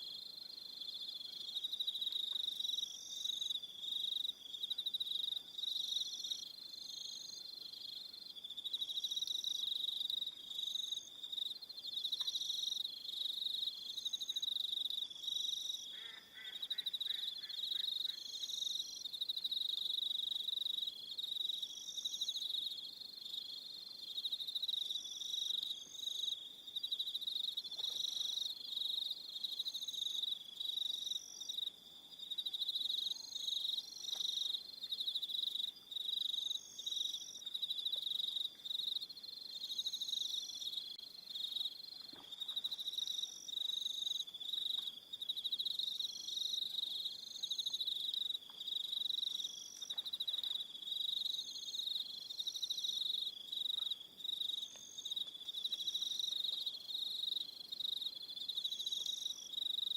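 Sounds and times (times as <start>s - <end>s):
crickets trilling: 0.2s - 59.9s.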